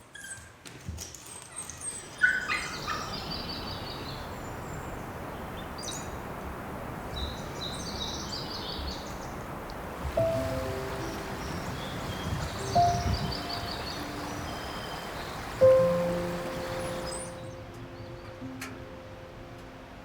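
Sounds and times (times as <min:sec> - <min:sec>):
birds chirping: 0:01.6 - 0:18.6
soft outdoor hiss: 0:01.9 - 0:20.0.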